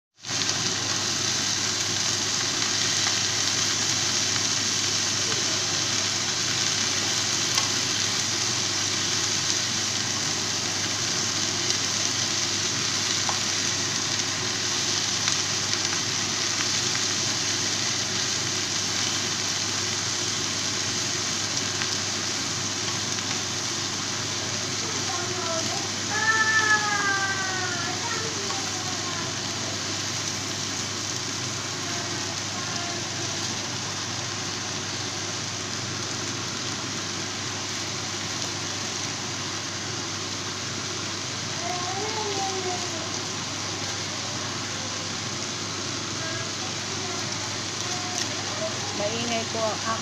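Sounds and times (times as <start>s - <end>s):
food sizzling in a pan: 0.1s - 50.0s.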